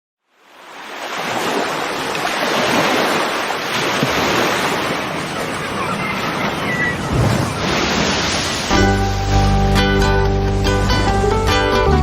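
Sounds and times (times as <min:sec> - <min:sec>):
water rushing: 0:00.3 - 0:11.8.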